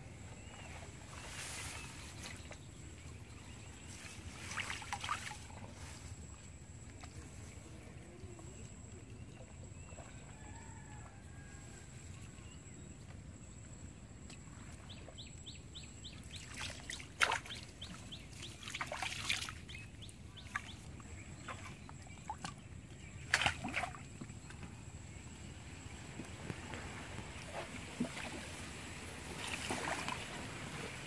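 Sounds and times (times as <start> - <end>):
splashing and rustling in water: 0.2 - 13.6, 14.2 - 31.0.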